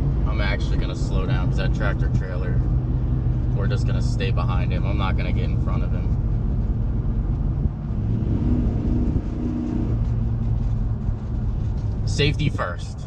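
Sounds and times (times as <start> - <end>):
engine drone: 0.0 - 13.0
road rumble inside vehicle: 0.0 - 13.0.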